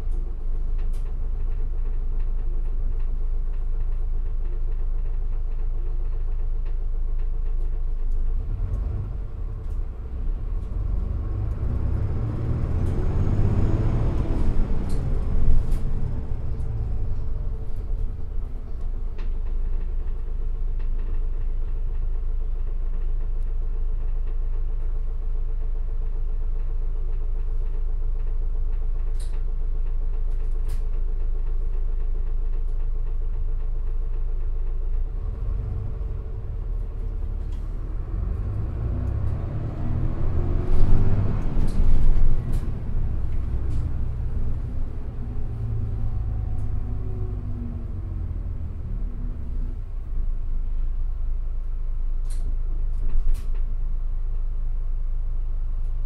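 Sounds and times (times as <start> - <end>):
bus diesel engine rumbling: 0.0 - 56.0.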